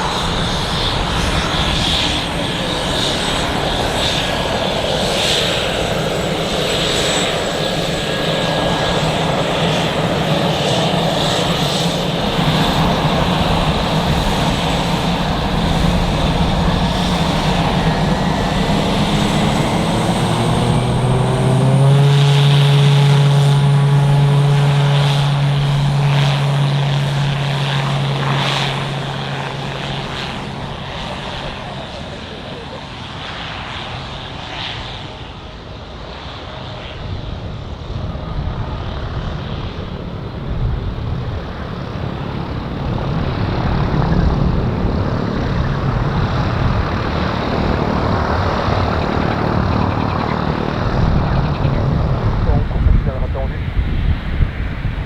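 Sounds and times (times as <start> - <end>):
aircraft engine running: 0.0 - 55.0.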